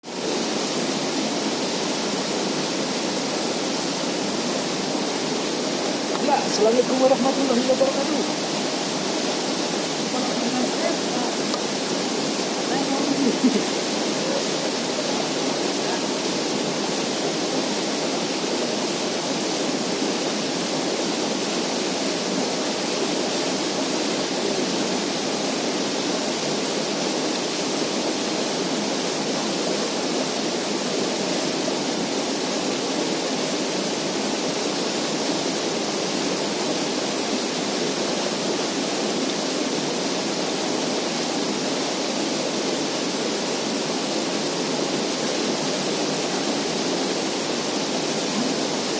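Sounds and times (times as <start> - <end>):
steady rushing noise: 0.0 - 48.9.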